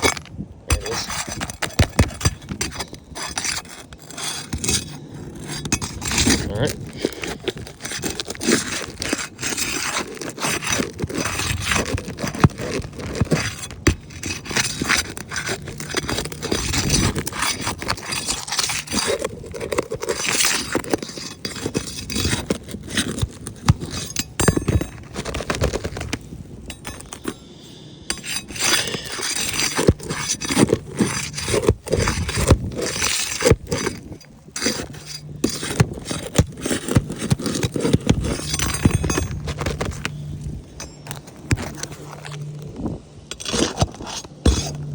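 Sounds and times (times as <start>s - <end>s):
roof shingles scraping and crackling: 0.0s - 44.9s.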